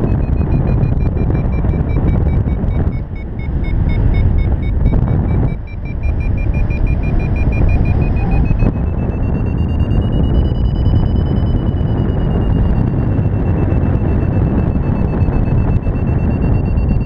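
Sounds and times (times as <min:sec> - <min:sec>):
variometer beeping: 0:00.0 - 0:17.0
wind rumble on microphone: 0:00.0 - 0:17.0.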